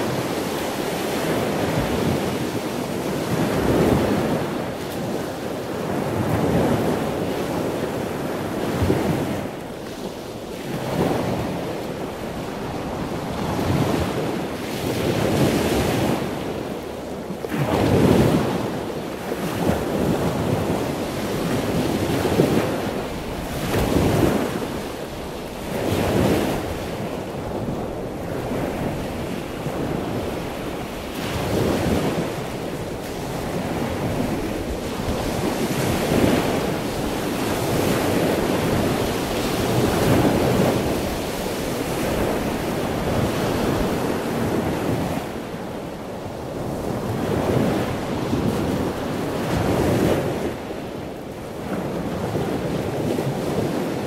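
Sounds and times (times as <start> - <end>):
ocean waves rushing: 0.0 - 54.0.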